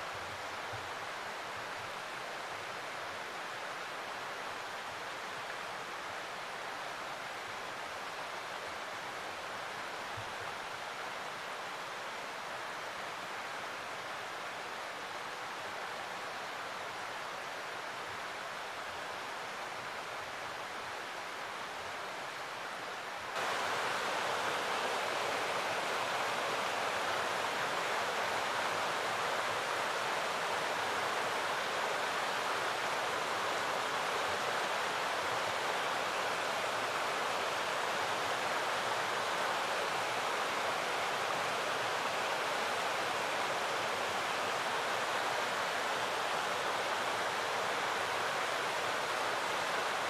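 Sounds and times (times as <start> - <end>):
stream rushing over boulders: 0.0 - 50.0.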